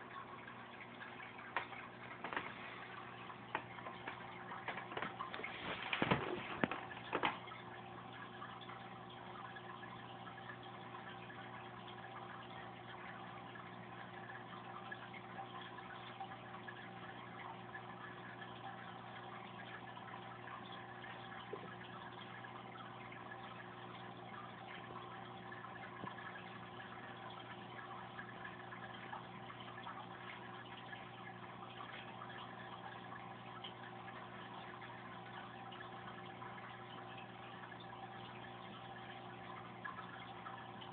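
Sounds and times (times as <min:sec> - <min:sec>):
aquarium pump humming: 0:00.0 - 0:40.9
water trickling and bubbling: 0:00.0 - 0:40.9.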